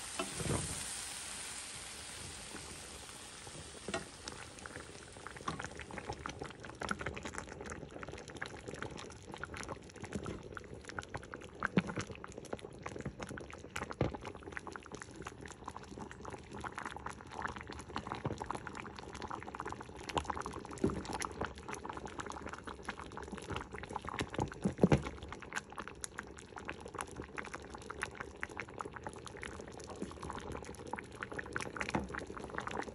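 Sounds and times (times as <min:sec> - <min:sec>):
curry bubbling in a pot: 0:00.0 - 0:32.9.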